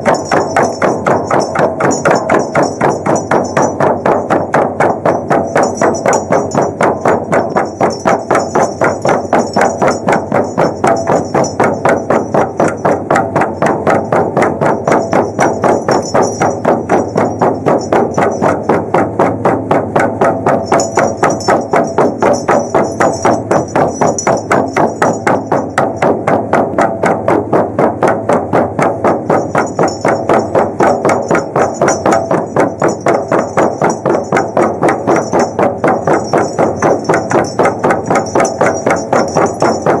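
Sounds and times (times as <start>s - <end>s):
frame drums beaten: 0.0s - 40.0s.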